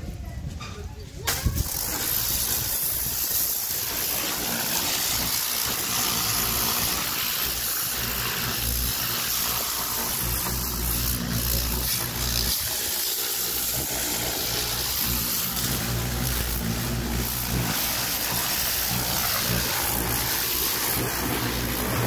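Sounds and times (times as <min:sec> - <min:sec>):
water jet hissing: 0:01.3 - 0:22.0.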